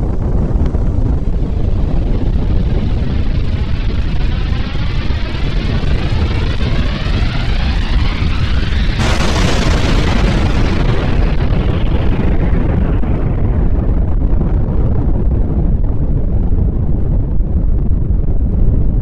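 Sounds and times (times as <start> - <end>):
deep explosion rumble: 0.0 - 19.0.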